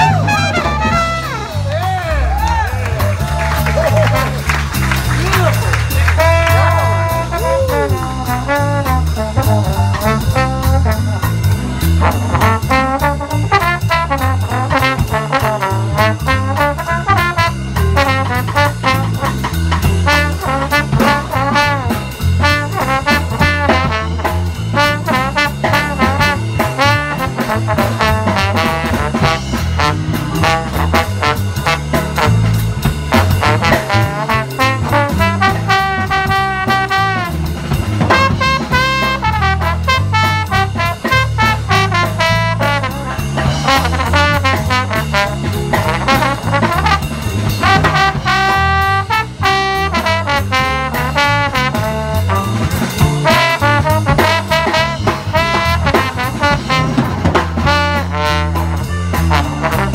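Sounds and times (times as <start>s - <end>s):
bass line: 0.0s - 59.9s
trombone jazz solo: 0.0s - 59.9s.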